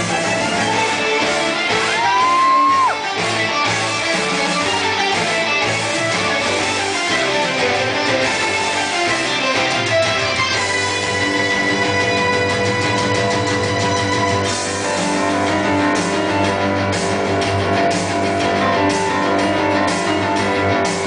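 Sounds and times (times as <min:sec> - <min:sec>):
loud guitar music with steady beat: 0:00.0 - 0:21.0.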